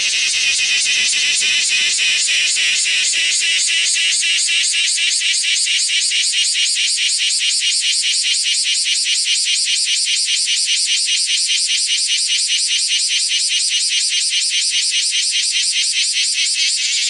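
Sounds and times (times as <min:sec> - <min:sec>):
cicada buzzing: 0:00.0 - 0:17.0.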